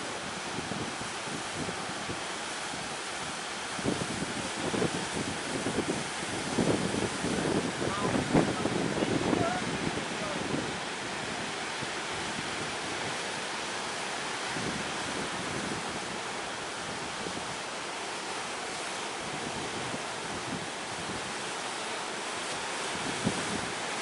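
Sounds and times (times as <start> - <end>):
wind buffeting microphone: 0.0 - 17.8, 19.1 - 21.5, 22.8 - 24.0
sea surf rushing: 0.0 - 24.0.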